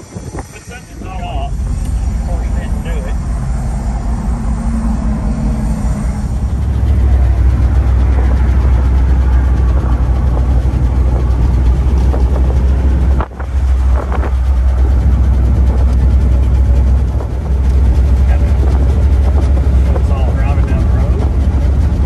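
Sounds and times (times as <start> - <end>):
wind and road rumble: 0.0 - 22.0.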